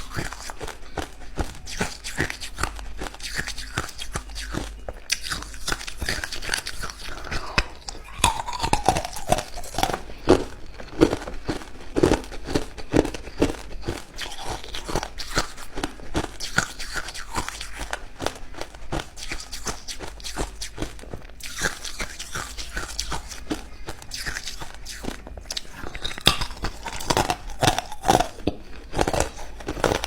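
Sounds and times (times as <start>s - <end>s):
ice cubes crunched between teeth: 0.0s - 30.0s.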